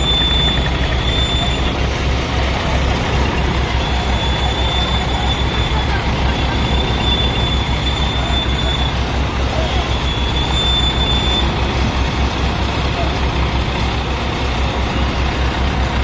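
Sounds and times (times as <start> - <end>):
diesel engine throbbing: 0.0 - 16.0.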